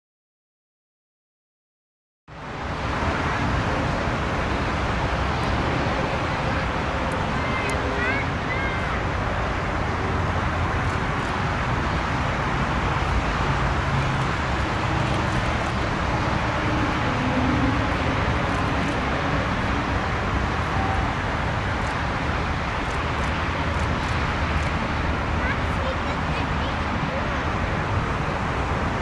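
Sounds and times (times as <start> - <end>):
jet engines rumbling and hissing: 2.3 - 29.0
airport background noise: 2.4 - 29.0.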